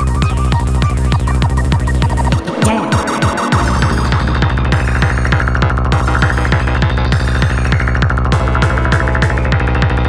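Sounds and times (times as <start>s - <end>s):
electronic psytrance music: 0.2s - 10.0s.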